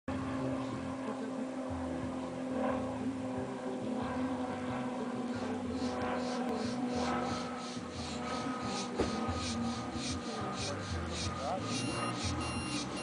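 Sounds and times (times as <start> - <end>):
model airplane engine running: 0.1 - 13.0.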